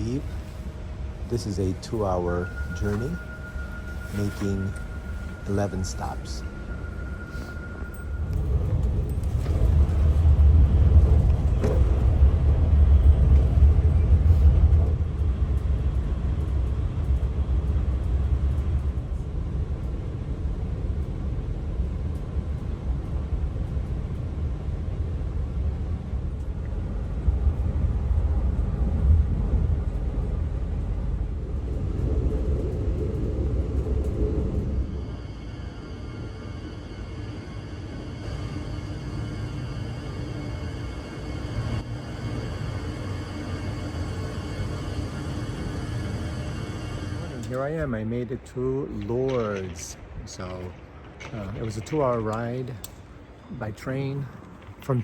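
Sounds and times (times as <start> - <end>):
passenger train rumbling: 0.0 - 55.0.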